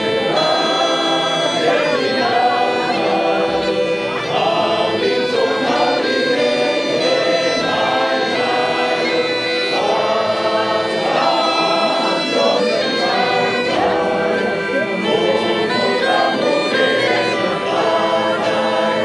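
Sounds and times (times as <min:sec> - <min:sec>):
bagpipes with drone: 0:00.0 - 0:19.0
people singing in chorus: 0:00.0 - 0:19.0.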